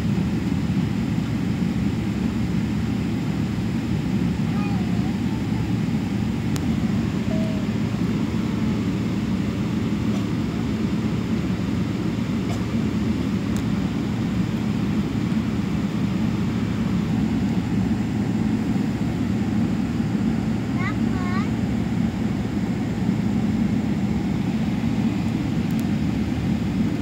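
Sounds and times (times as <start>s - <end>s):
jet airliner roar: 0.0s - 27.0s.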